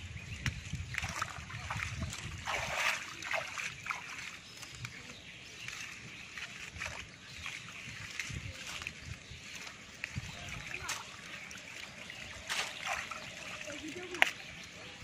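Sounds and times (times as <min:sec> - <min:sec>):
water sloshing in ditch: 0:00.3 - 0:15.0
leafy stalks rustling: 0:01.0 - 0:15.0.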